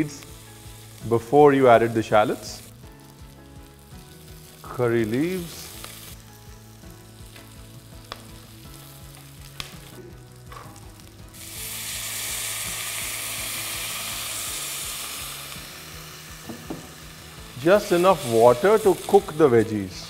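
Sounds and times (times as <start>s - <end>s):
shallots frying gently in fat: 0.0s - 20.0s
water hissing in hot fat: 0.0s - 20.0s.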